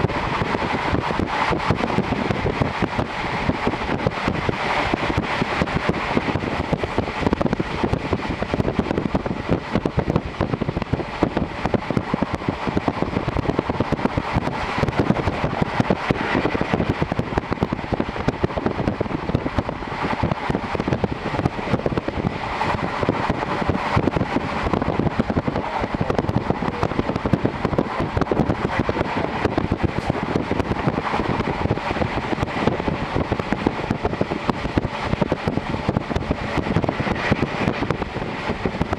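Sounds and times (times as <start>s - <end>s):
air rushing through window: 0.0s - 38.9s
train wheels on rails: 0.0s - 38.9s.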